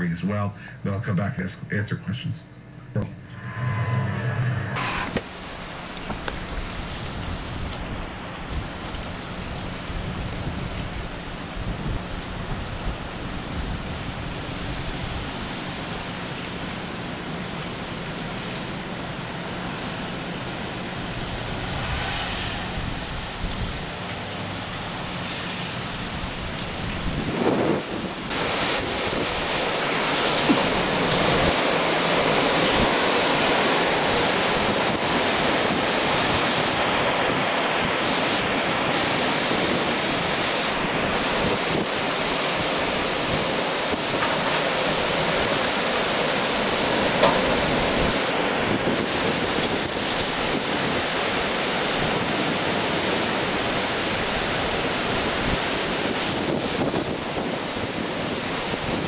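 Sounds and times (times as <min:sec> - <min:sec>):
rushing wind and rain: 0:03.5 - 0:59.0.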